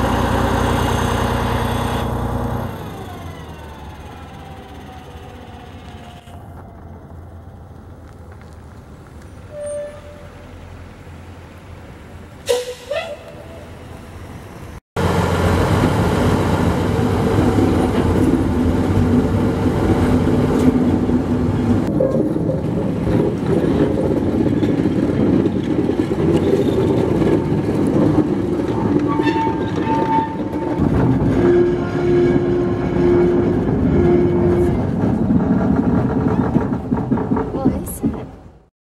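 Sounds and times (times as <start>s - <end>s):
diesel locomotive engine drone: 0.0s - 38.7s.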